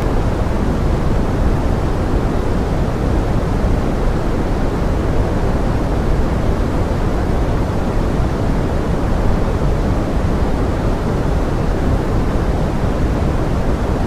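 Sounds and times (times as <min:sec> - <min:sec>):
deep pink noise hiss: 0:00.0 - 0:14.0.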